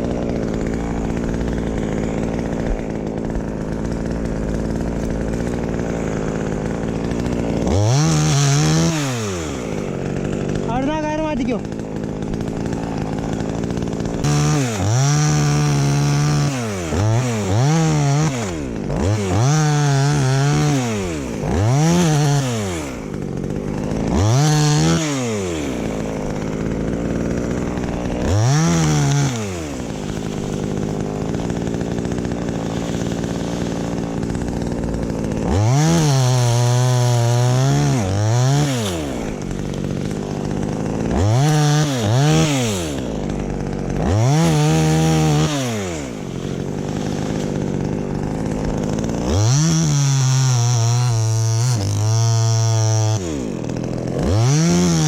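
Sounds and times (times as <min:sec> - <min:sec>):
chainsaw revving and idling: 0:00.0 - 0:55.0.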